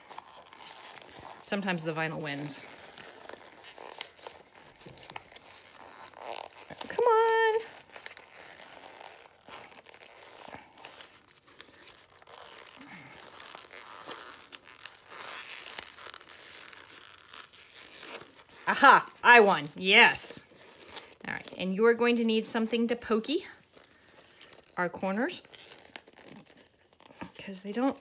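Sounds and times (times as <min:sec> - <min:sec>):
vinyl bag crumpling and crinkling: 0:00.0 - 0:28.0.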